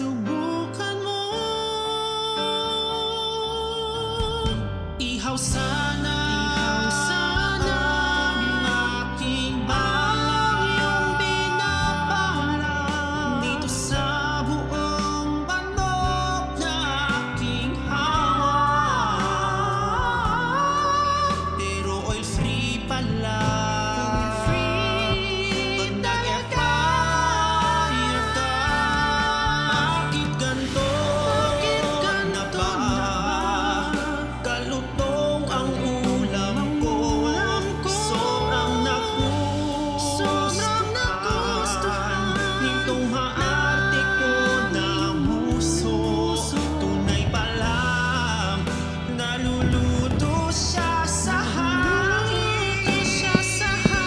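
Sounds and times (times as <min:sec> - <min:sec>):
instrumental backing: 0:00.0 - 0:54.0
man singing a ballad: 0:00.0 - 0:54.0
backing voice echoing: 0:03.5 - 0:54.0.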